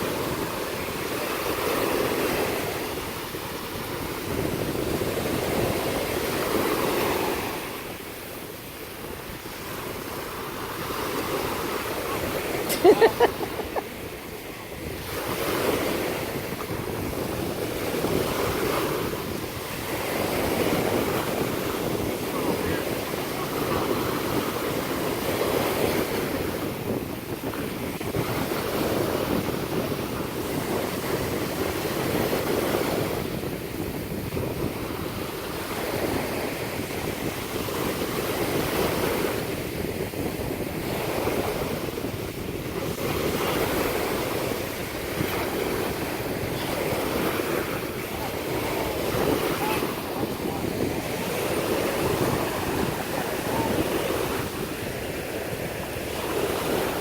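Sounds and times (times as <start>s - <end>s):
surf washing in: 0.0s - 57.0s
wind rumbling on microphone: 0.0s - 57.0s.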